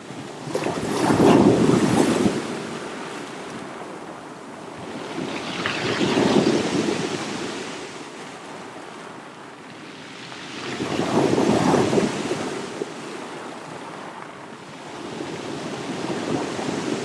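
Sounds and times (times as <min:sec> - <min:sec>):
sea waves washing in: 0:00.1 - 0:17.0.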